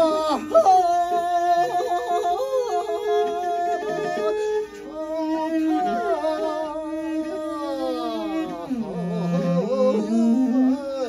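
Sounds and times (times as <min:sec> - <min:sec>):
bowed fiddle accompaniment: 0:00.0 - 0:11.0
man singing long held notes: 0:00.0 - 0:11.0.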